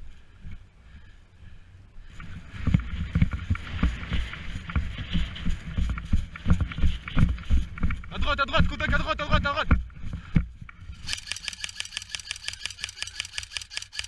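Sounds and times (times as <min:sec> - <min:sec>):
footsteps: 0:02.1 - 0:14.0.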